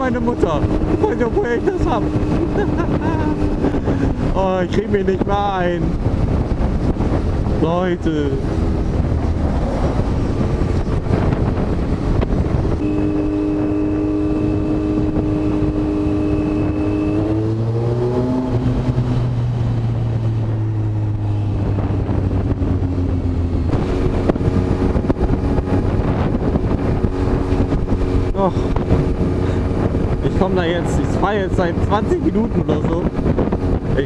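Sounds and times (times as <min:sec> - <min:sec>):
motorcycle engine running: 0:00.0 - 0:34.0
wind noise on microphone: 0:00.0 - 0:34.0.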